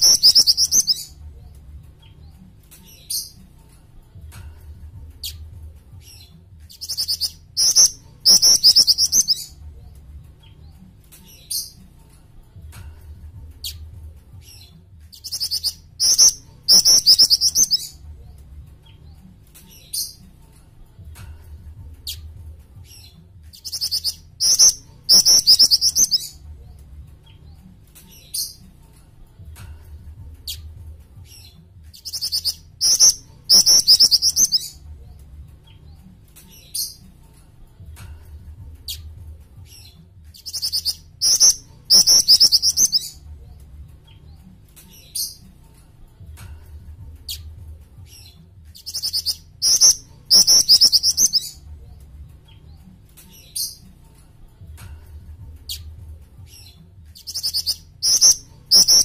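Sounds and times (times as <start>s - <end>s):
bird song with buzzy trills: 0.0s - 59.0s.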